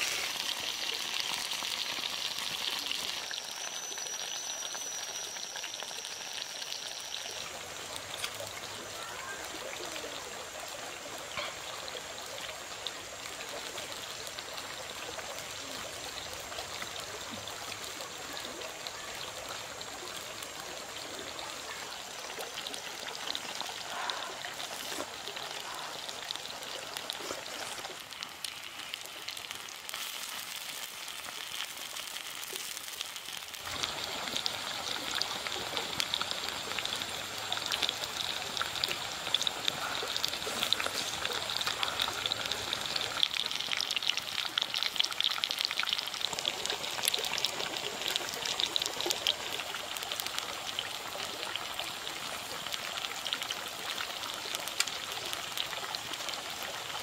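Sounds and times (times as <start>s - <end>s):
food sizzling in hot pan: 0.0s - 9.5s, 18.9s - 57.0s
running stream: 0.0s - 57.0s.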